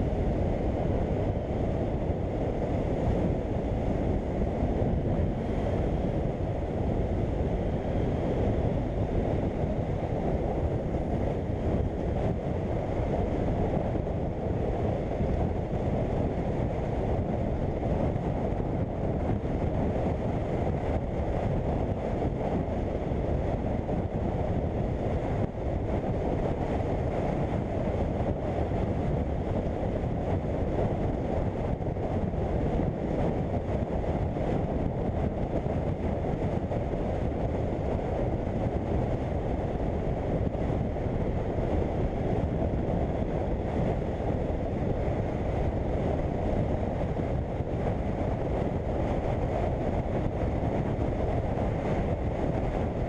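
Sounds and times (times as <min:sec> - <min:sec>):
wind rush over microphone: 0:00.0 - 0:53.0.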